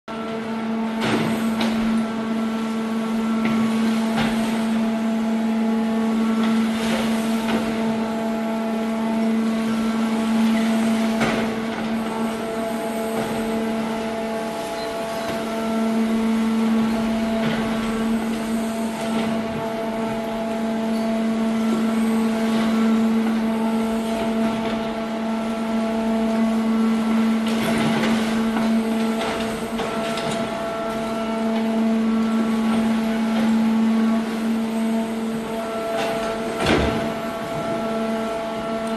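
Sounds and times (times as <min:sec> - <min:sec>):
machine power unit hum: 0:00.1 - 0:38.9.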